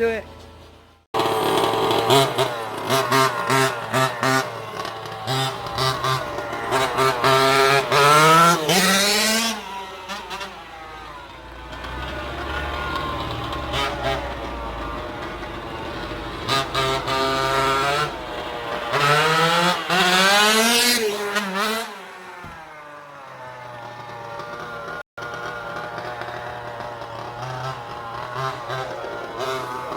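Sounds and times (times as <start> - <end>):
small two-stroke engine revving: 1.1 - 29.9.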